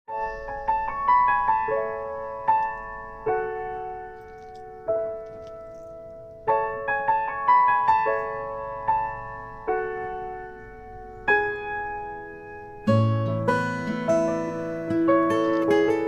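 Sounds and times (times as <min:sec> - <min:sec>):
slow piano music: 0:00.1 - 0:16.0.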